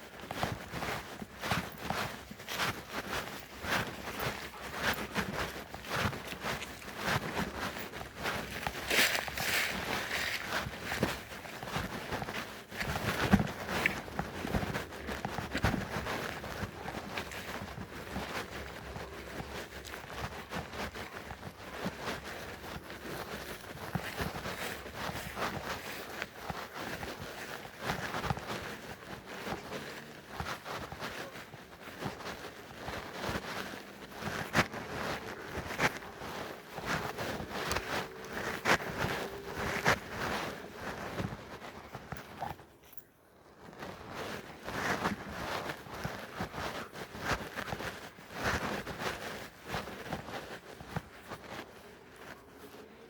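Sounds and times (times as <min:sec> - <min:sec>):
footsteps on woodland trail: 0:00.0 - 0:53.0.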